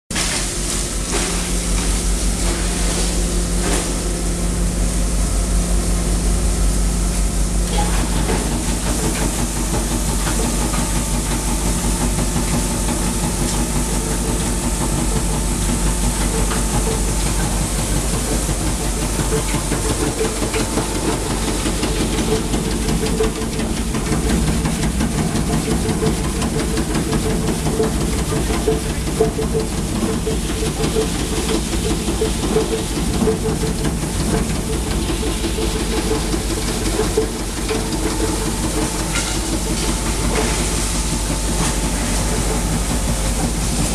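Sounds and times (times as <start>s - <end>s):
mixing machine humming and hissing: 0.1s - 43.9s.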